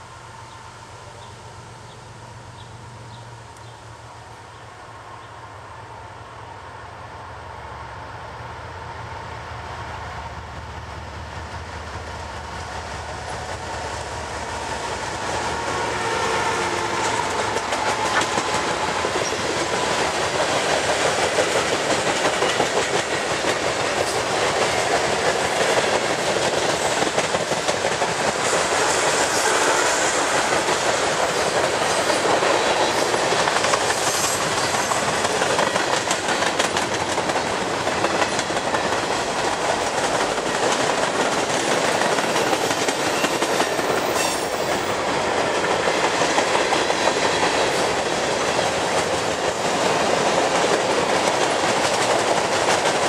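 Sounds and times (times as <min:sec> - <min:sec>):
diesel locomotives droning: 0:00.0 - 0:53.0
train wheels clickety-clack on rails: 0:10.5 - 0:53.0.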